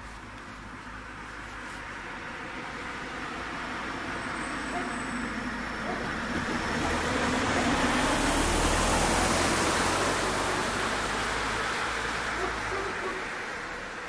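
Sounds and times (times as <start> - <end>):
car driving past: 2.1 - 14.0.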